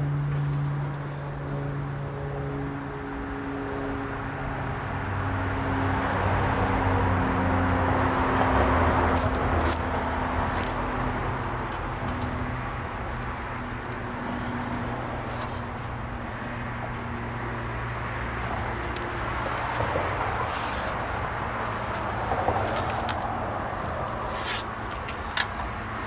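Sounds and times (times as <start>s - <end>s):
motor vehicle passing: 0.0s - 26.0s
steady low hum: 0.0s - 26.0s.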